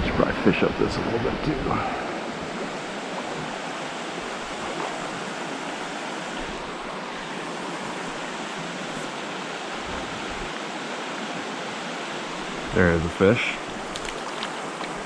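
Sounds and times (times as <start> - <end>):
creek rushing: 0.0 - 15.0.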